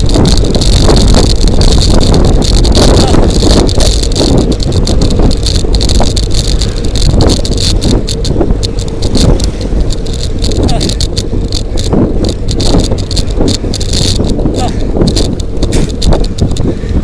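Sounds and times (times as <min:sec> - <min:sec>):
bicycle rattles and clicks: 0:00.0 - 0:17.0
wind rumbling on microphone: 0:00.0 - 0:17.0.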